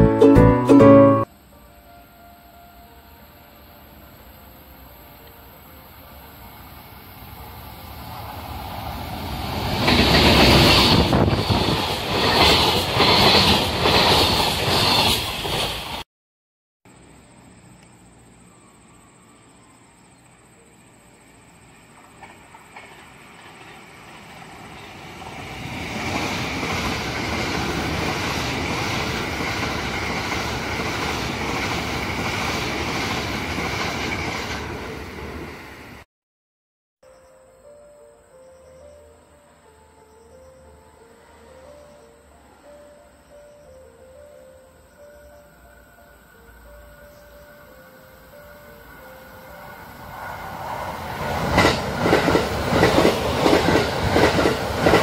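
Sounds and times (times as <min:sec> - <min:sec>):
train rumbling past: 0:00.0 - 0:16.0, 0:20.2 - 0:36.1, 0:38.0 - 0:55.0.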